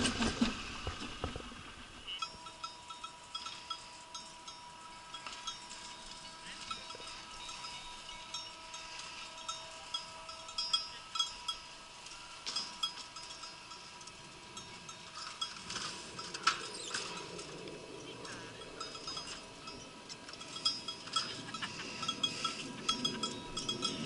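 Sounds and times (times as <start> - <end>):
sled rolling on metal track: 0.0 - 24.0
cowbells clinking and ringing: 2.1 - 24.0.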